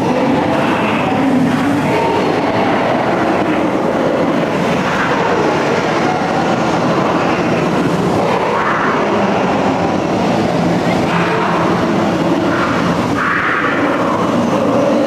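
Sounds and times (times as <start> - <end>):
loud rumbling: 0.0 - 15.0.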